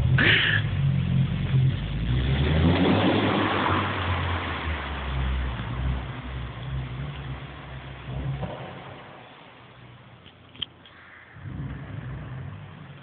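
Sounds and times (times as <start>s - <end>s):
car engine revving: 0.0s - 10.2s, 10.9s - 13.0s.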